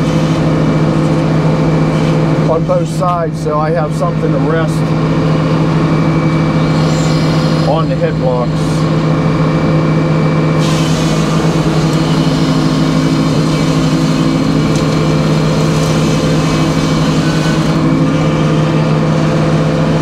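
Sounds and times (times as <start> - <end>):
sawmill humming: 0.0 - 20.0.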